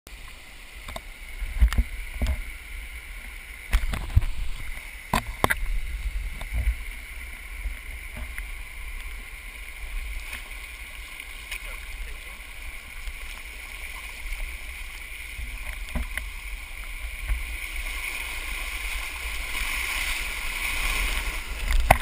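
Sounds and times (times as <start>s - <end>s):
water rushing and splashing: 0.1s - 22.0s.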